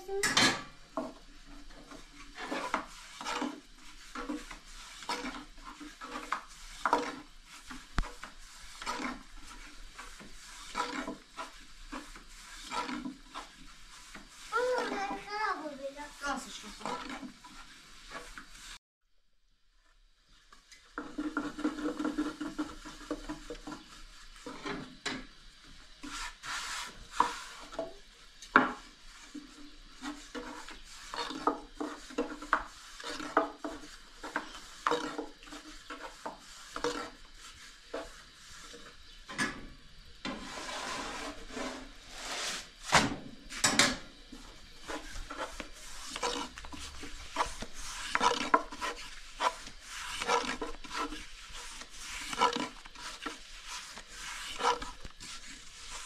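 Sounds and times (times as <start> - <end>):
rolling pin rubbing over dough: 0.9 - 18.8, 20.9 - 39.3, 40.2 - 43.6, 44.2 - 56.0.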